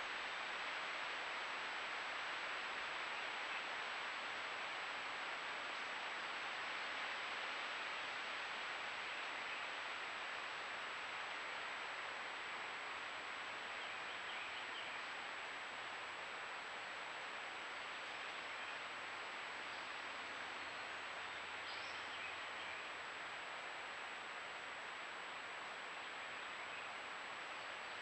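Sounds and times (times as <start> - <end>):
microphone hiss: 0.0 - 28.0.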